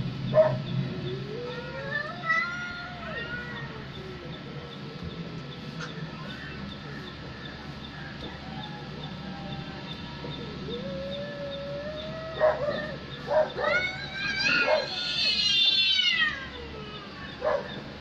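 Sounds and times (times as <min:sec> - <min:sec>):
cats yowling through tv speaker: 0:00.3 - 0:07.3, 0:08.1 - 0:18.0.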